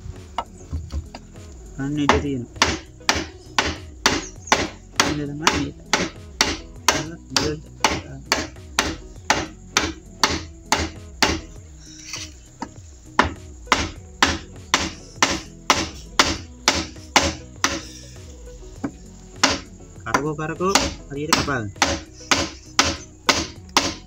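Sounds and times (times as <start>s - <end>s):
axe chopping bamboo: 2.0s - 11.6s, 12.2s - 18.0s, 18.8s - 24.0s.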